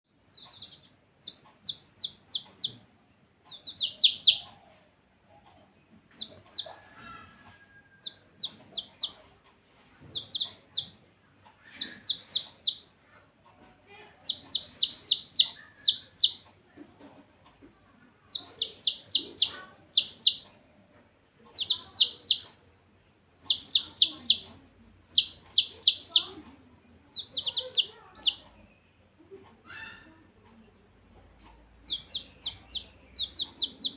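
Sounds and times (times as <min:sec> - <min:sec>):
baby chicks peeping: 0:00.1 - 0:33.9.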